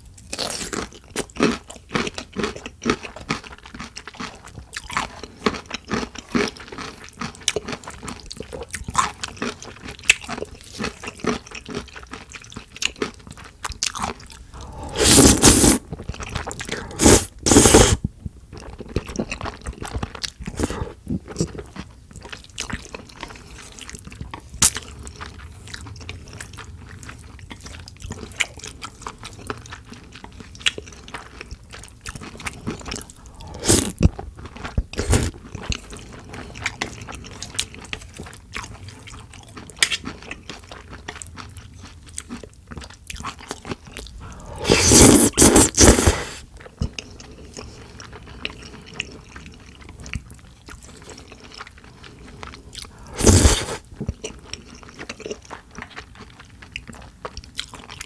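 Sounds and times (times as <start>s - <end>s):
chewing and wet mouth sounds: 0.1s - 58.0s.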